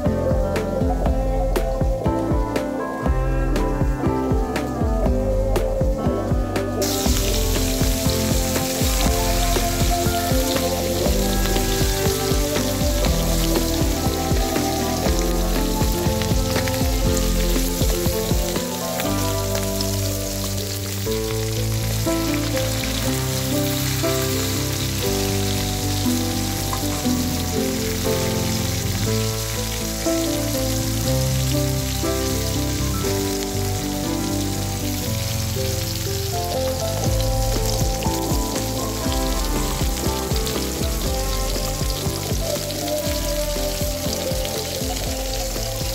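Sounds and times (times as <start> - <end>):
background music: 0.0 - 45.9
fish sizzling in oil: 6.6 - 45.9.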